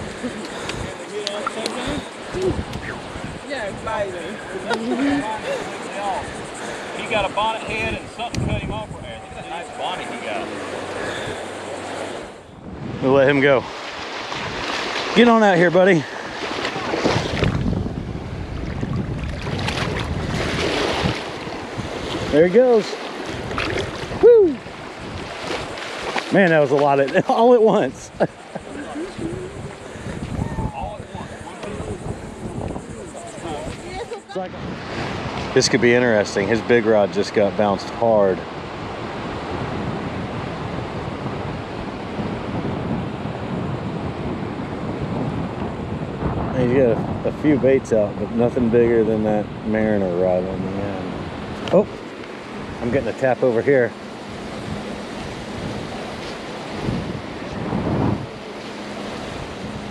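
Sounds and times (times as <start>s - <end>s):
ocean surf washing: 0.0s - 59.9s
wind buffeting microphone: 0.0s - 59.9s.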